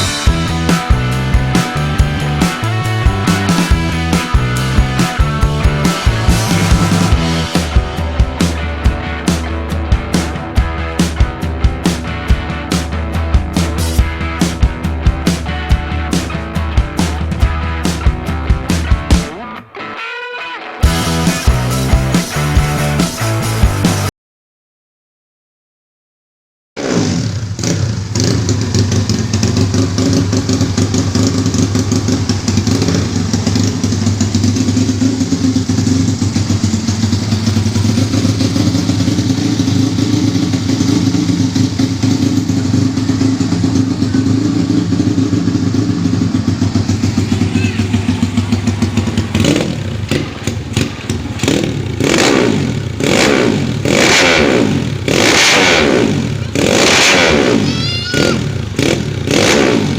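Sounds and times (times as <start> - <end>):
motorcycle engine idling and revving: 0.0 - 19.4, 20.8 - 24.1, 26.8 - 59.9.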